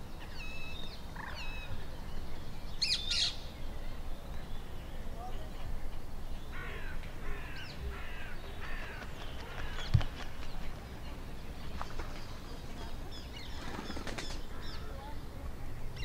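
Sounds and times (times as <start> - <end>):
bird calling: 0.0 - 16.0.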